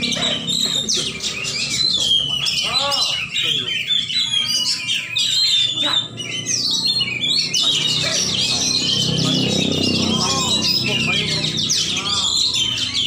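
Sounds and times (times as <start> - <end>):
birds chirping and whistling: 0.0 - 13.0.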